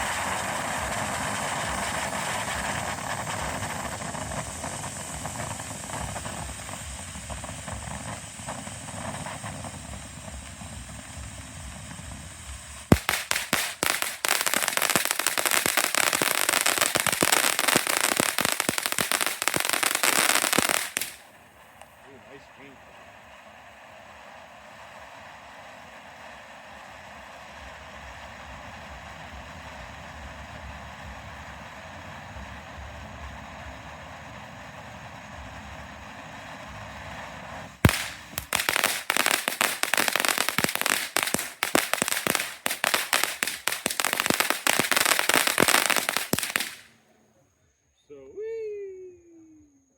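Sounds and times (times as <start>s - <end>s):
firework crackling: 0.0s - 47.0s
firework fountain hissing: 0.0s - 47.0s
firework crack: 0.0s - 47.1s.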